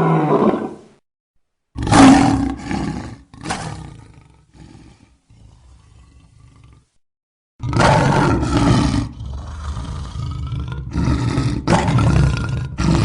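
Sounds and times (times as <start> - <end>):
monster roaring: 0.0 - 0.8, 1.8 - 6.9, 7.6 - 13.0
low growl: 1.8 - 7.0, 7.6 - 13.0.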